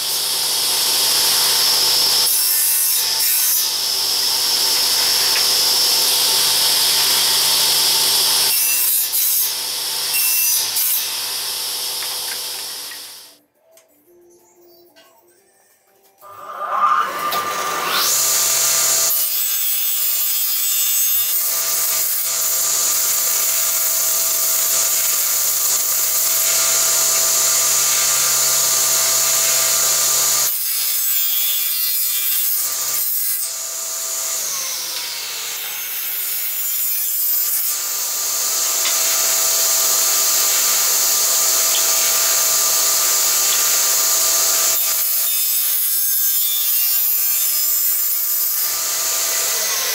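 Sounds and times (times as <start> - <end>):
saw cutting wood: 0.0 - 13.4, 16.2 - 49.9
woodworking machine whining: 0.0 - 13.4, 16.3 - 49.9.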